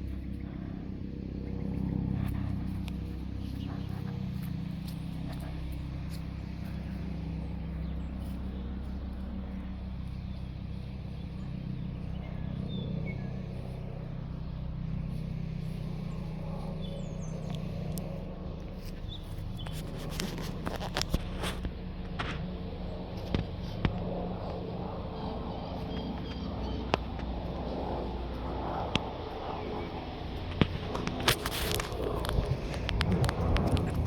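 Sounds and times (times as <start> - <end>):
helicopter rotor throb: 0.0 - 34.0.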